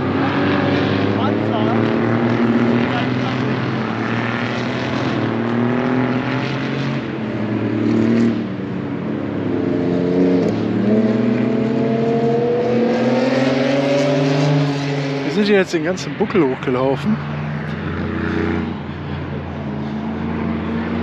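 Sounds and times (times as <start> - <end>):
racing car engine accelerating: 0.0 - 8.5, 9.8 - 21.0.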